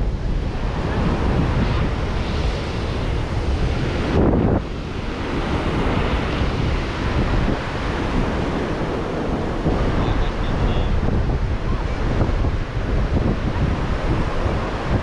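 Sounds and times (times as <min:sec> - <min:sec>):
ocean surf washing onto beach: 0:00.0 - 0:15.0
wind rumbling on microphone: 0:00.0 - 0:15.0.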